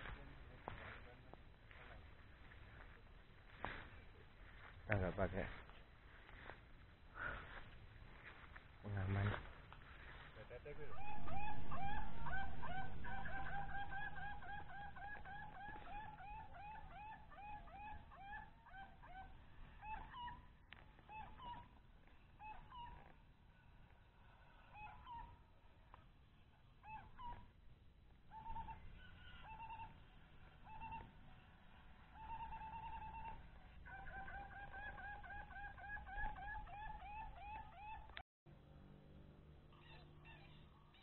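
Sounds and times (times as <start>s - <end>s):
faint bird calling: 0.0s - 27.6s, 28.2s - 38.2s, 39.7s - 41.0s.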